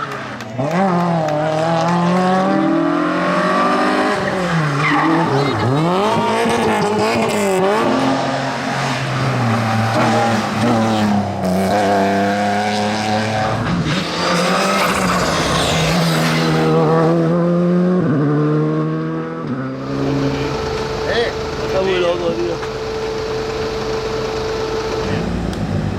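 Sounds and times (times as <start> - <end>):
rally car engines at full throttle: 0.0 - 25.9.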